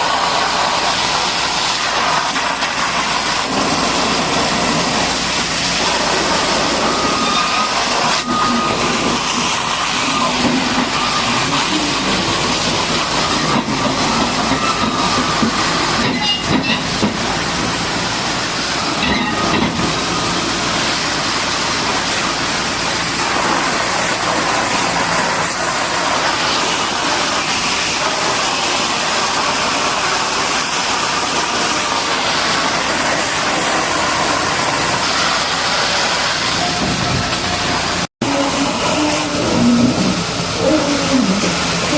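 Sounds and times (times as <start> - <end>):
high-pressure water jet hissing: 0.0 - 41.9.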